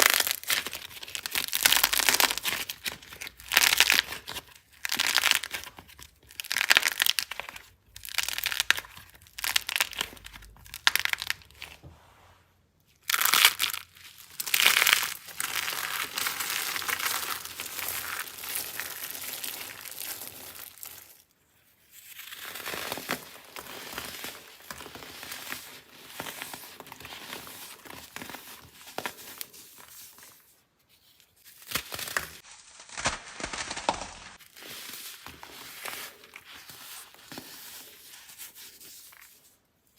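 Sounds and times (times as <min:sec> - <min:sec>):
dry soap crunching: 0:00.0 - 0:11.8, 0:12.9 - 0:39.6.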